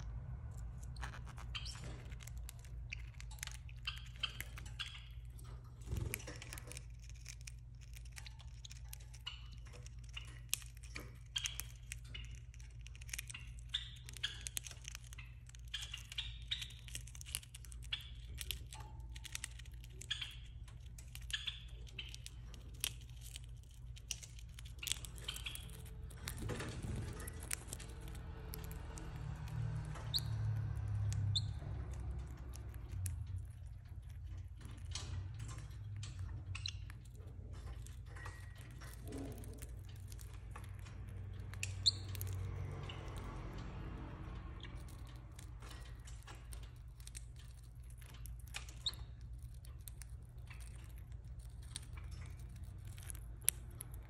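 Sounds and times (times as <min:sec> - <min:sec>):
bird beak nibbling dry pepper: 0:00.0 - 0:54.0
steady low hum: 0:00.0 - 0:54.0.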